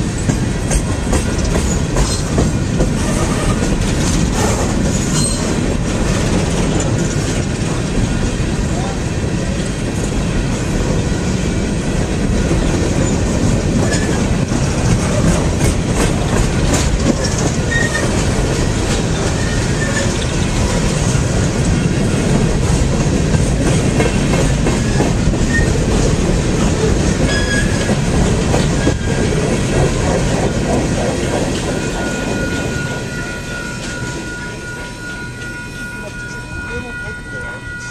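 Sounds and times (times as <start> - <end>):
freight train wheels rumbling: 0.0 - 37.9
train wheels clacking: 0.0 - 37.9.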